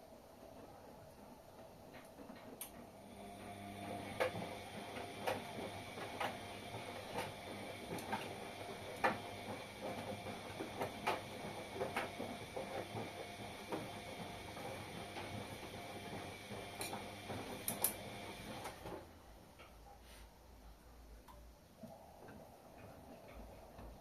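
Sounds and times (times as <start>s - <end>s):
washing machine motor hum: 0.0s - 19.6s.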